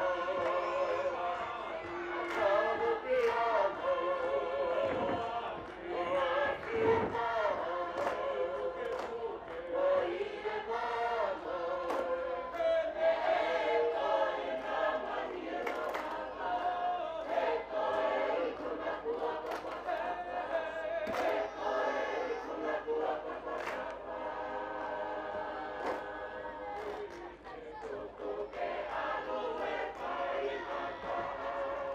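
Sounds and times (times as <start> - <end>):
group singing choral chant: 0.0 - 31.9.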